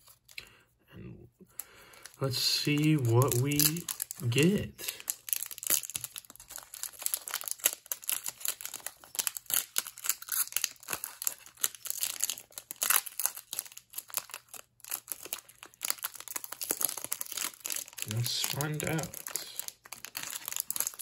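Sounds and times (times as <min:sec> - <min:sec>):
foil wrapper crinkling: 0:01.6 - 0:21.0
foil wrapper tearing: 0:01.7 - 0:21.0.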